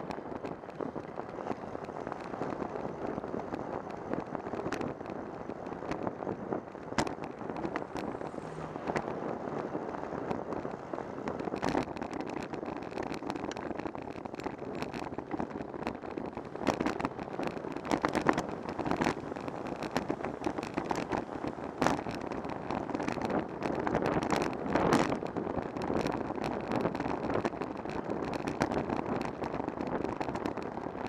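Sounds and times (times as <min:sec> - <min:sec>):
bicycle knocks and rattles: 0:00.0 - 0:31.0
wind and road noise: 0:00.0 - 0:31.0.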